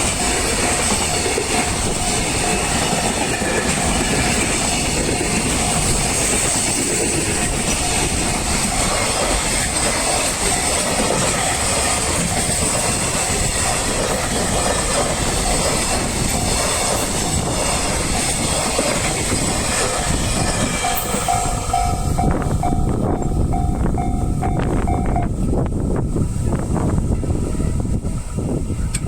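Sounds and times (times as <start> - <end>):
train wheels clacking on rails: 0.0 - 25.7
crossing warning bell: 0.0 - 26.1.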